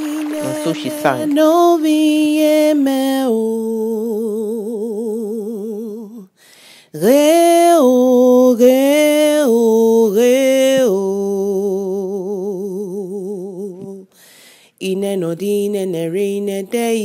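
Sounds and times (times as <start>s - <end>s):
woman singing unaccompanied: 0.0s - 6.3s, 7.0s - 14.1s, 14.8s - 17.0s.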